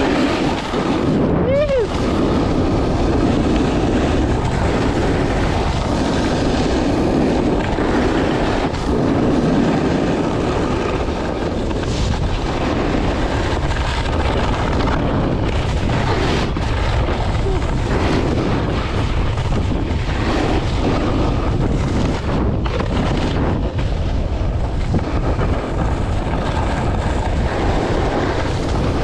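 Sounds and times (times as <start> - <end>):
snowboard scraping over snow: 0.0 - 29.0
wind rushing past microphone: 0.0 - 29.0.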